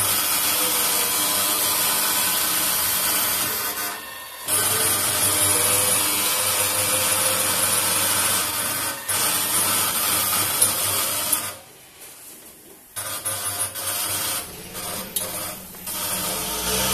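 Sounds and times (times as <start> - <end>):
milking machine hiss and hum: 0.0 - 16.9.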